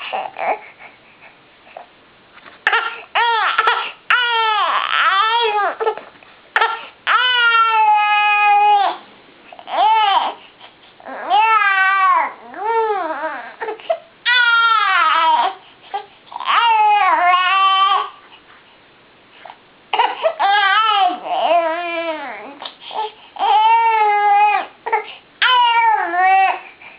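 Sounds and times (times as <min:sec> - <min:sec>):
baby crying: 0:00.0 - 0:00.7, 0:02.6 - 0:09.0, 0:09.6 - 0:10.4, 0:11.0 - 0:18.2, 0:19.9 - 0:26.8.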